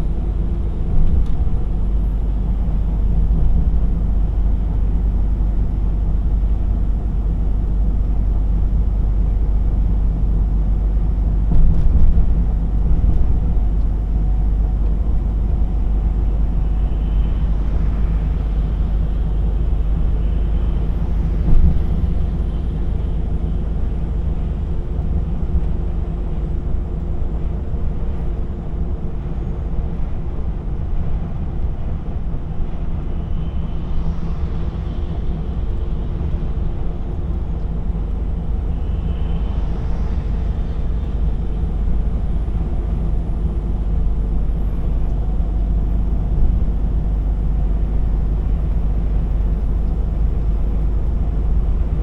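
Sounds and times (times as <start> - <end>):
diesel truck engine running: 0.0 - 32.6, 33.2 - 52.0
road and tyre noise: 0.0 - 52.0.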